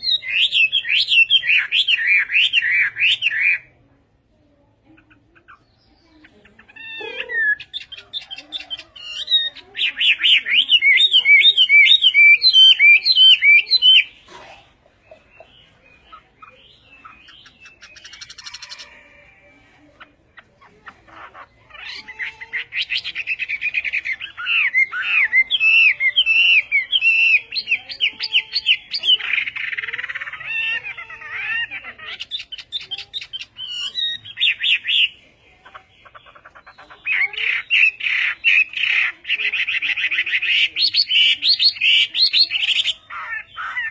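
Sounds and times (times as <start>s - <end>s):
songbird warbling: 4.9s - 19.4s, 20.0s - 43.9s.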